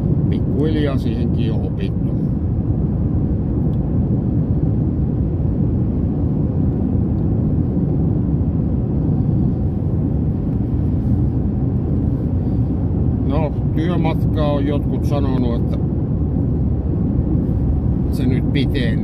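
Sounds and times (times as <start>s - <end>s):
car interior driving rumble: 0.0s - 19.0s.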